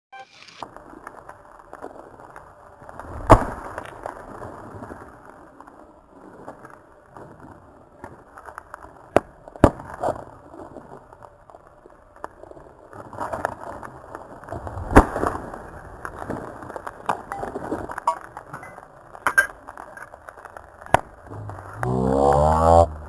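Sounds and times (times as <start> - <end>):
campfire crackling: 0.4 - 23.0.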